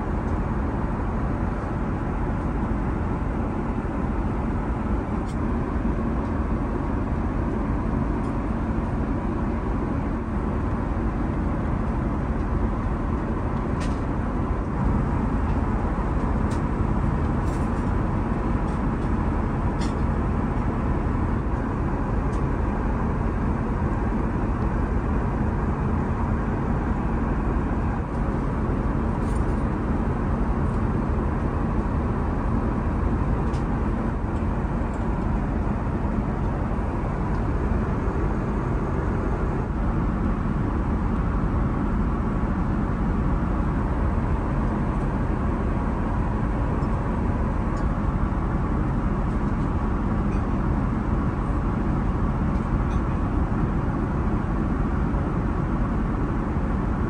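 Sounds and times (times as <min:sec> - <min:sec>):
aircraft cabin engine rush: 0:00.0 - 0:57.0.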